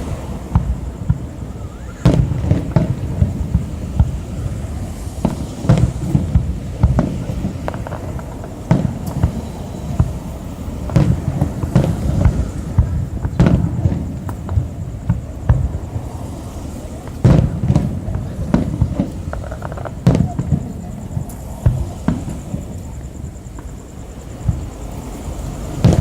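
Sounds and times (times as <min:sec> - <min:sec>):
fireworks booms and cracks: 0:00.0 - 0:26.0.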